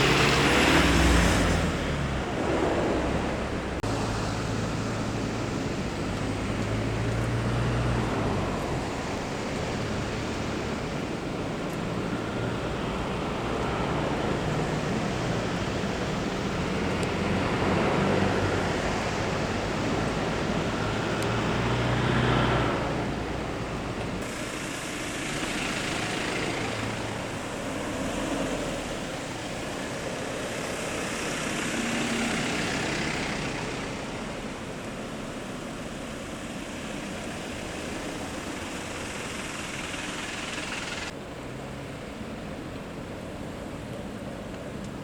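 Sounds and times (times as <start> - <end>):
fire trucks driving past: 0.0 - 45.0.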